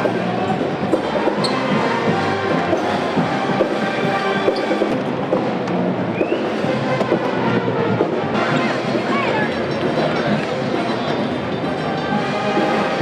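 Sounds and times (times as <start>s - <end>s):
music with steady drum beat: 0.0s - 13.0s.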